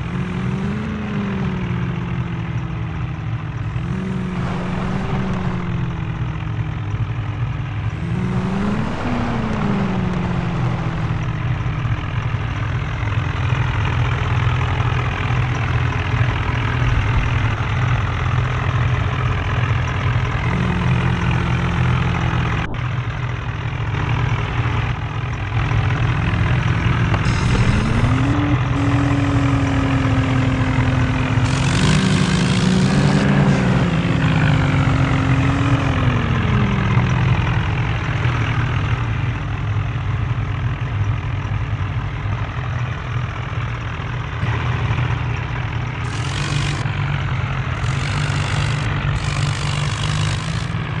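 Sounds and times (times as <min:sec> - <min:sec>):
tractor engines revving: 0:00.0 - 0:51.0.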